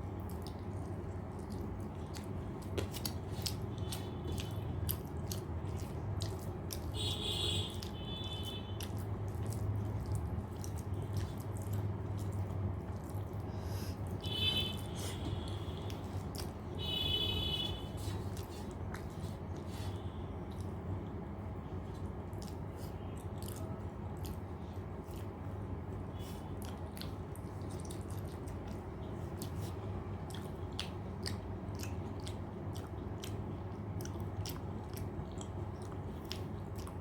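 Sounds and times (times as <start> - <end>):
steady low hum: 0.0 - 37.0
wet chewing and mouth clicks: 0.0 - 37.0.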